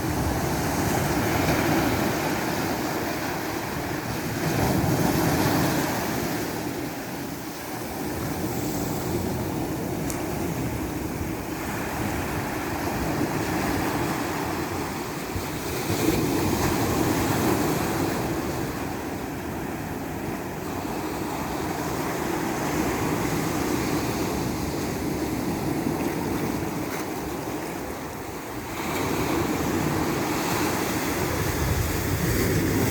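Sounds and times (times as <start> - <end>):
ocean waves breaking on shore: 0.0 - 32.9.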